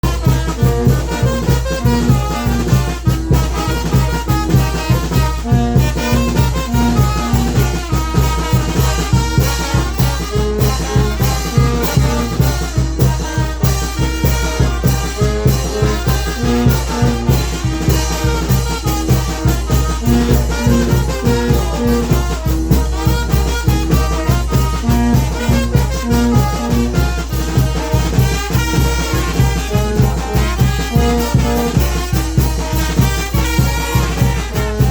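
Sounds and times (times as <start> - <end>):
brass band playing: 0.0 - 34.9.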